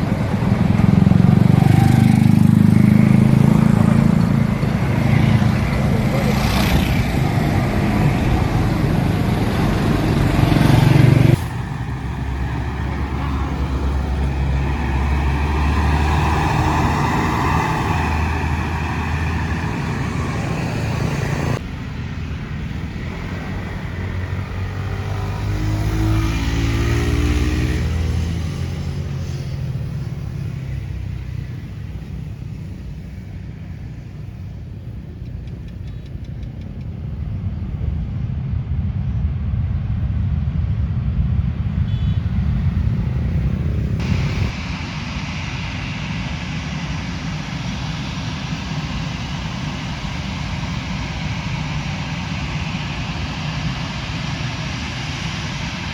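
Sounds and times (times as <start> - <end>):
bus engines running: 0.0 - 55.9.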